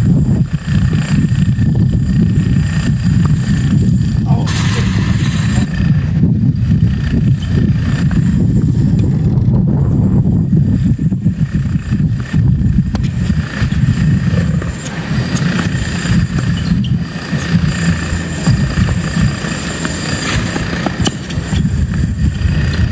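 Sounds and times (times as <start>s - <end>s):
strong wind on microphone: 0.0s - 22.9s.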